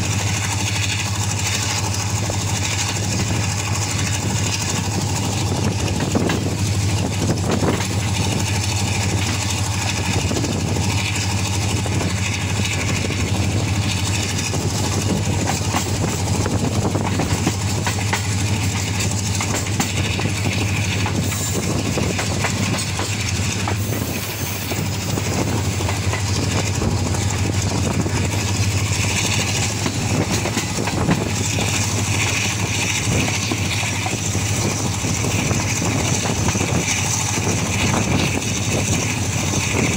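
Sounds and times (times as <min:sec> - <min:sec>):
locomotive engine drone: 0:00.0 - 0:39.9
moving train noise: 0:00.0 - 0:39.9.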